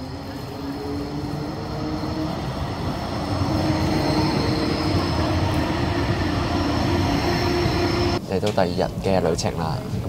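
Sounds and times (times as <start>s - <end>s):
tram motor whine: 0.0s - 8.2s
wheels rumbling on rails: 0.0s - 8.3s.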